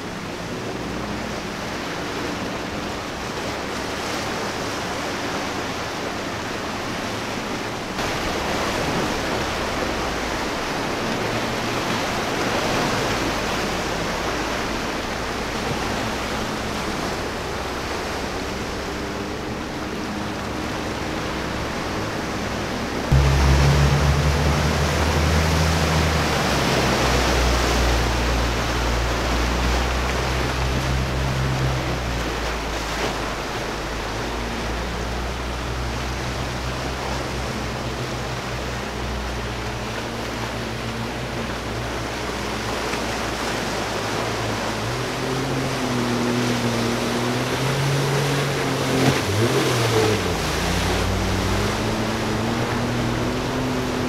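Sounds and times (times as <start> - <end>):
breaking waves and spray: 0.0 - 54.0
jet ski engine running: 0.0 - 54.0.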